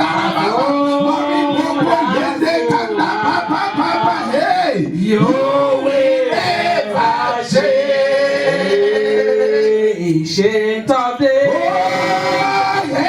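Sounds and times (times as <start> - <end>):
other voices singing: 0.0 - 13.0.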